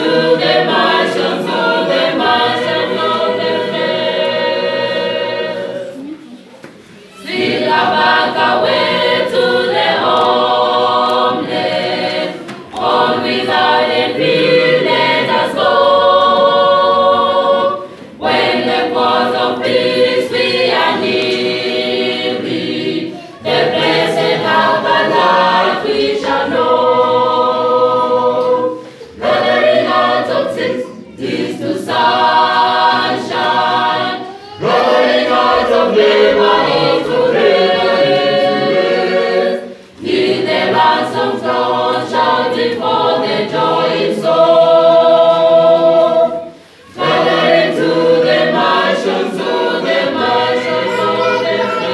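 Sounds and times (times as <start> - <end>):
mixed choir singing a cappella: 0.0 - 51.9.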